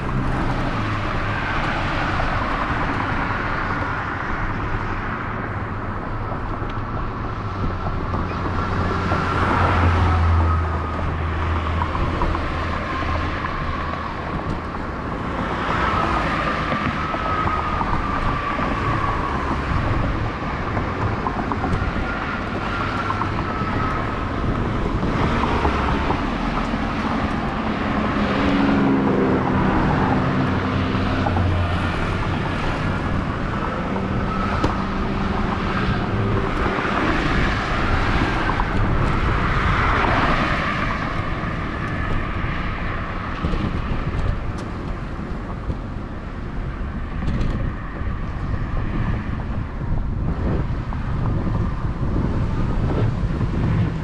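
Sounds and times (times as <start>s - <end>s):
bicycle rolling: 0.0s - 50.5s
motor vehicle engine: 0.0s - 54.0s.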